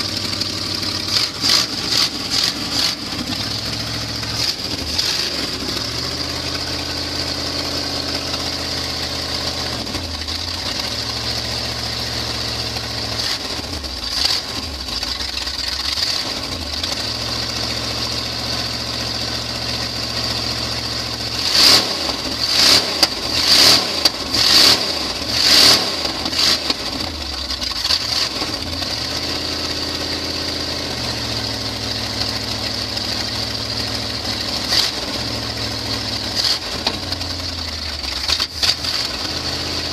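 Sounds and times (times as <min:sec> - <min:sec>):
pickup engine idling and revving: 0:00.0 - 0:39.9.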